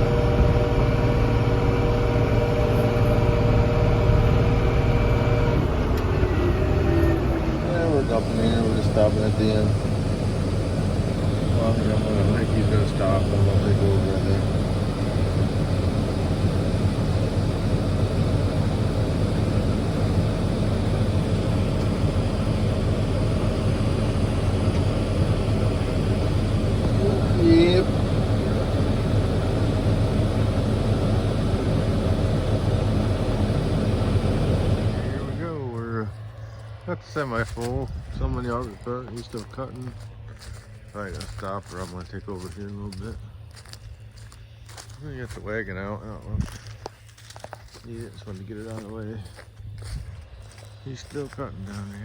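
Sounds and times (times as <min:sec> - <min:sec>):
diesel engine running: 0:00.0 - 0:52.0
steady whine: 0:00.0 - 0:52.0.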